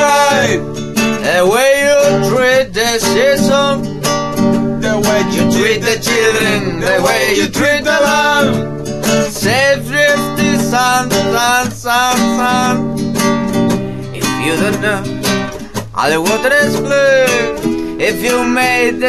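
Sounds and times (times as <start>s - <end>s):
strummed acoustic guitar song: 0.0s - 19.0s.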